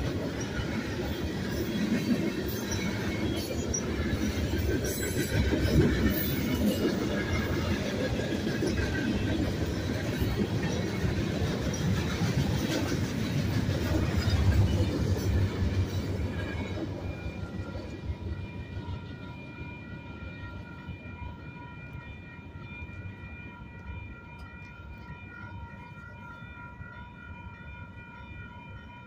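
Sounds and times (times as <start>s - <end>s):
freight train rolling over tracks: 0.0s - 29.0s
railroad crossing bell ringing: 0.0s - 29.0s.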